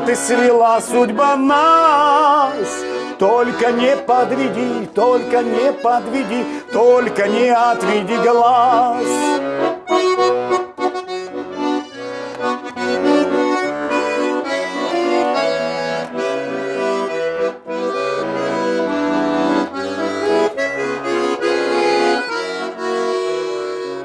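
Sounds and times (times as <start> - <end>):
button accordion playing: 0.0 - 24.0.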